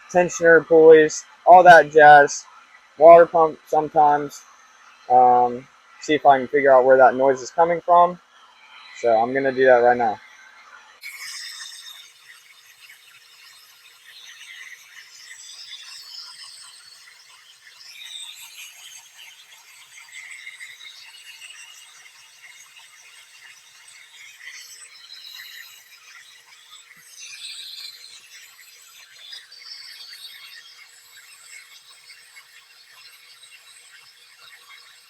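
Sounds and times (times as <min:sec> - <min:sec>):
grinding squealing engine belt: 0:00.0 - 0:35.0.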